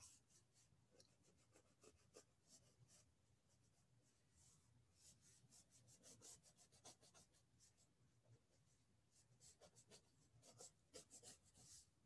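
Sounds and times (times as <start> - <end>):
pencil scratching on paper: 0.0 - 7.9, 8.6 - 12.0.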